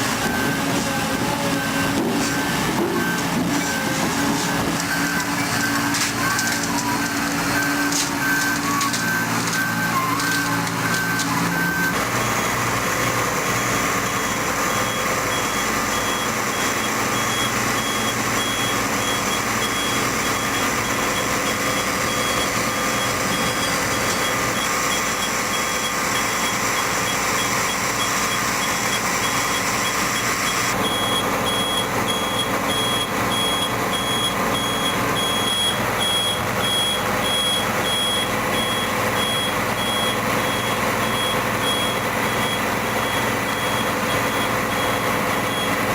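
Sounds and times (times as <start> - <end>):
heavy construction machinery running: 0.0 - 45.9
back-up alarm beeping: 0.1 - 12.6, 13.4 - 45.8.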